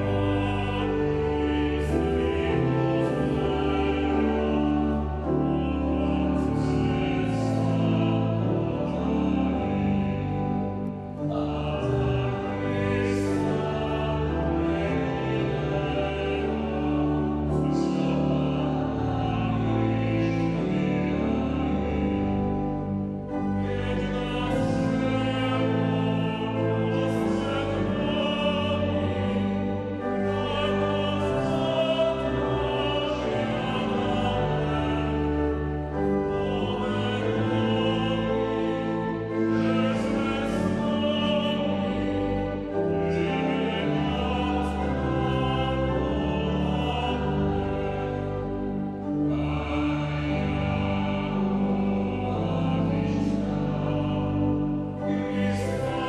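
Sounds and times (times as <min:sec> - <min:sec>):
men singing with vibrato: 0:00.0 - 0:10.3, 0:11.3 - 0:22.2, 0:23.4 - 0:56.0
congregation singing: 0:00.0 - 0:56.0
pipe organ: 0:00.0 - 0:56.0.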